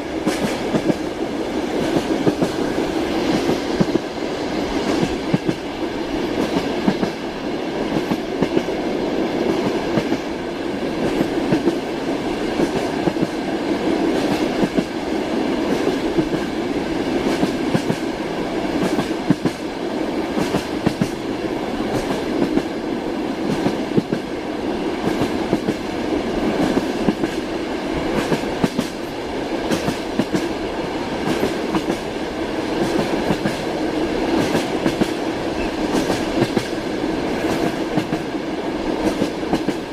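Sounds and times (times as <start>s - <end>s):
moving train rumble: 0.0s - 39.9s.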